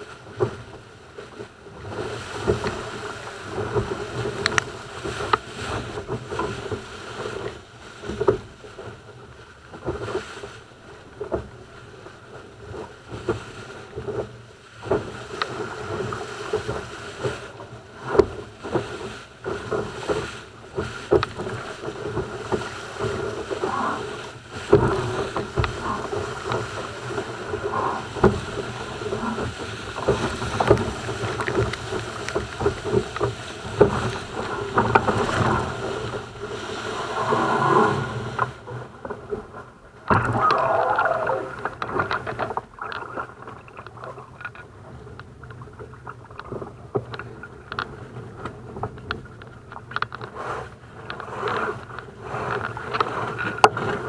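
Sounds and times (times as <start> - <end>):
loud splashing of boat capsizing: 0.0 - 48.8
water rushing against hull: 0.0 - 54.0
water sloshing around hull: 0.0 - 54.0.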